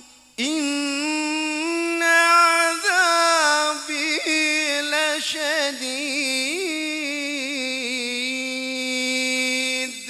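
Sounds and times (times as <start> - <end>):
man chanting melismatic recitation: 0.0 - 10.0.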